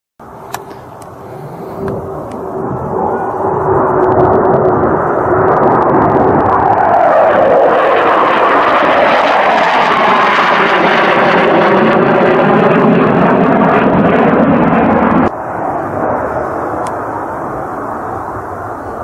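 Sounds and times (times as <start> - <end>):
jet engine roar: 0.2 - 19.0.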